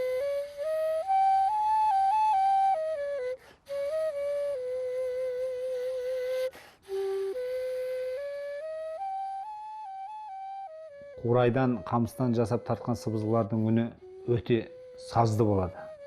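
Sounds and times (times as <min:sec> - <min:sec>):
flute solo melody: 0:00.0 - 0:16.0.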